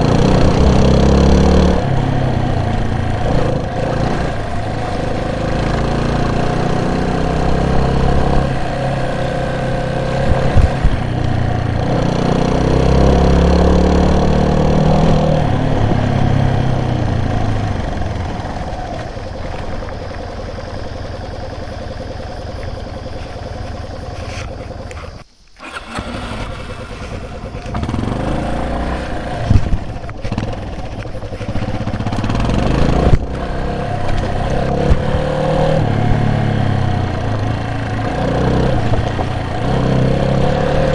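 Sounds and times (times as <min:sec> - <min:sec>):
vehicle engine revving: 0:00.0 - 0:40.9.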